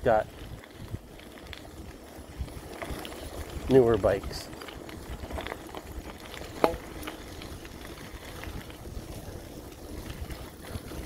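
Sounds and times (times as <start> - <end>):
bicycle tyres crunching on gravel: 0.0 - 11.0
wind rumble on microphone: 0.0 - 11.0.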